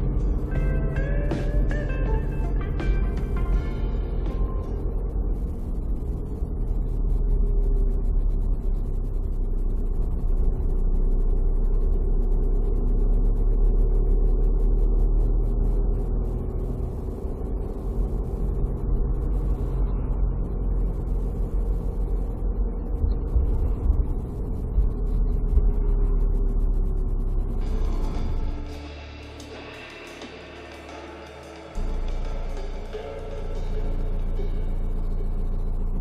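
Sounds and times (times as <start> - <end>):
car engine rumble: 0.0 - 36.0
faint hum: 0.0 - 36.0
tyre road noise: 0.0 - 36.0.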